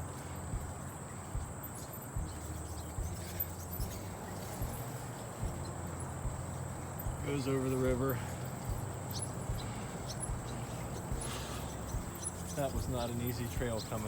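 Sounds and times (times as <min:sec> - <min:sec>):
bicycle rolling: 0:00.0 - 0:14.0
high insect buzz: 0:00.0 - 0:14.0.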